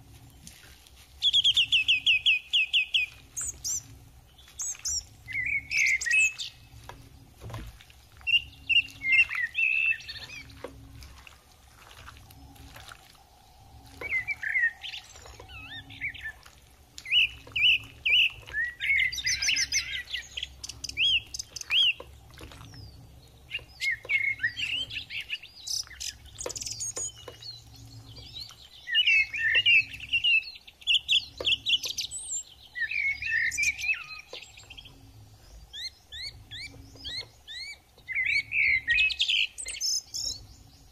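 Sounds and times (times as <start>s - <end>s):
faint low rumble: 0.0s - 40.9s
small birds chirping: 0.0s - 40.9s.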